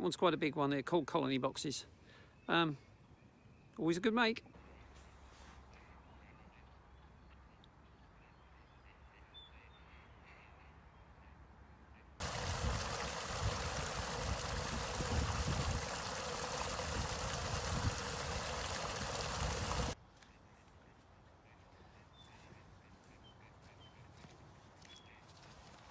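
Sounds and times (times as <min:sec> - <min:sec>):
faint outdoor background: 0:00.0 - 0:24.1.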